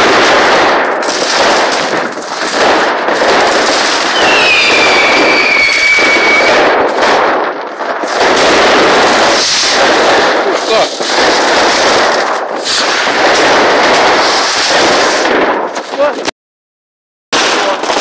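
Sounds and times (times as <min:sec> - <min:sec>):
whistling firework: 0:00.0 - 0:07.5, 0:08.3 - 0:15.4
fireworks bangs and crackling: 0:00.0 - 0:16.3, 0:17.3 - 0:18.0.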